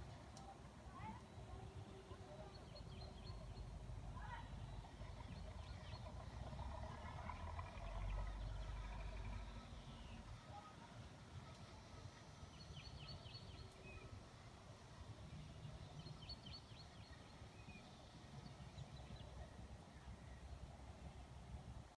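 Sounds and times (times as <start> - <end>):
faint low rumble: 0.0 - 21.9.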